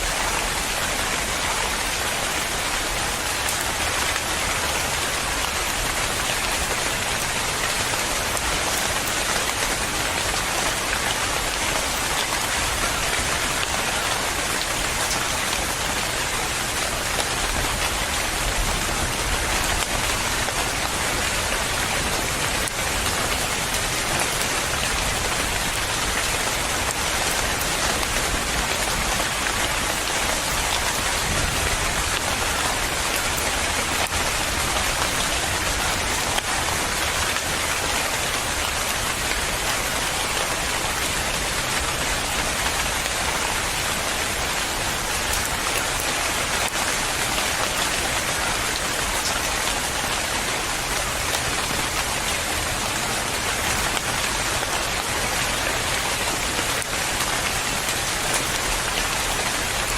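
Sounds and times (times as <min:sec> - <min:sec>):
steady rain pattering: 0:00.0 - 0:59.9.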